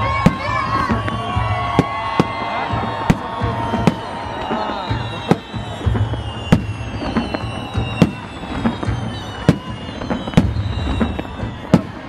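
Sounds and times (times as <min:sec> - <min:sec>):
fireworks bangs: 0:00.0 - 0:12.0
fireworks pops and crackle: 0:00.0 - 0:12.0.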